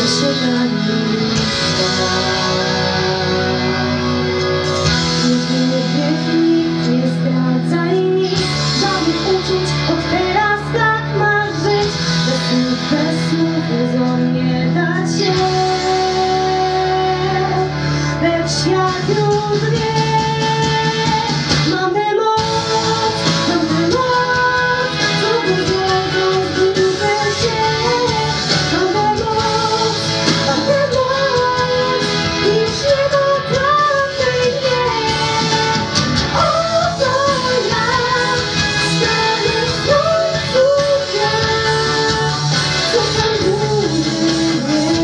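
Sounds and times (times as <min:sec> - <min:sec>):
girl singing pop ballad: 0:00.0 - 0:45.0
instrumental backing track: 0:00.0 - 0:45.0.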